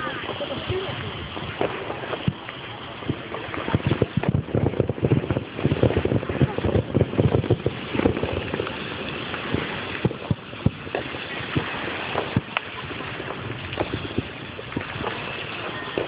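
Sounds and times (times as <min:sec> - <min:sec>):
fireworks popping and cracking: 0:00.0 - 0:16.0.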